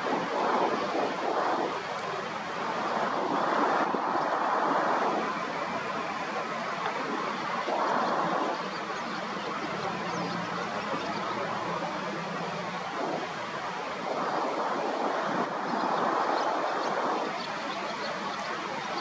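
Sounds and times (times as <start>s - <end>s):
surf washing on beach: 0.0s - 19.0s.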